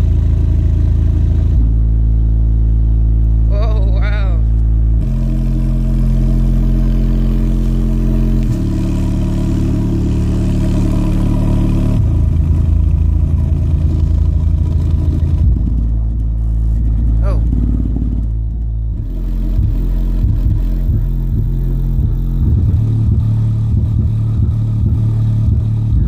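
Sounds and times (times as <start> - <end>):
deep bass notes from subwoofer: 0.0 - 26.0.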